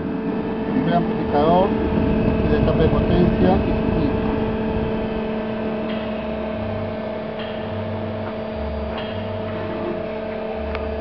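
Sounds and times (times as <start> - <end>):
electrical hum: 0.0 - 11.0
low drone switching pitch: 0.0 - 11.0.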